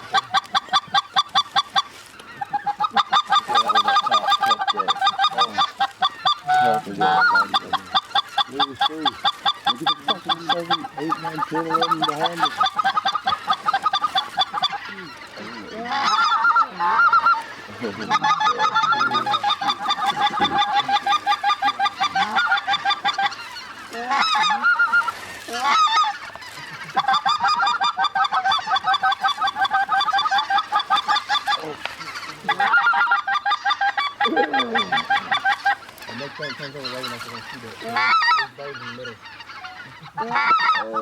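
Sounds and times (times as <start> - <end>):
geese honking: 0.0 - 41.0.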